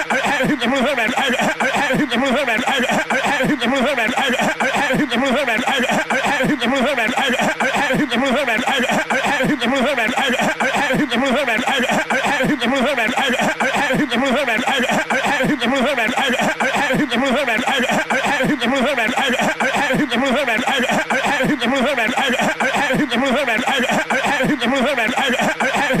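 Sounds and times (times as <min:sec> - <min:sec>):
cartoon voice rapid stuttering: 0:00.0 - 0:26.0.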